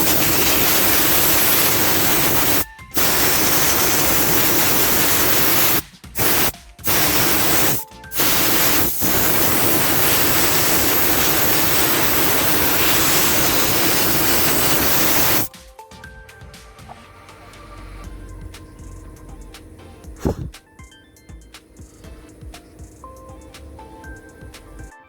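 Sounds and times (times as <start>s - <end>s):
compressed-air spray hissing: 0.0s - 15.5s, 17.2s - 20.6s, 21.2s - 24.9s.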